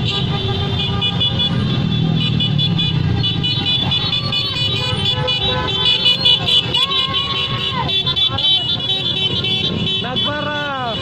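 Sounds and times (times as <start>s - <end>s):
vehicle engines and traffic rumble: 0.0s - 11.0s.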